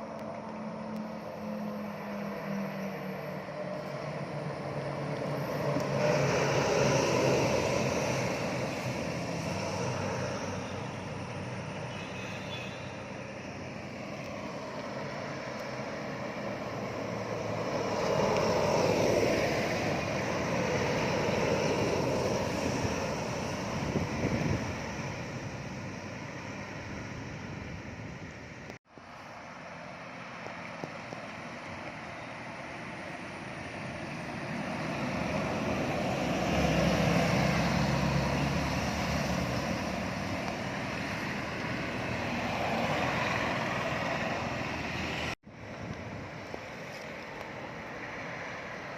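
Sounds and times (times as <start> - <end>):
trucks and buses passing: 0.0 - 48.9.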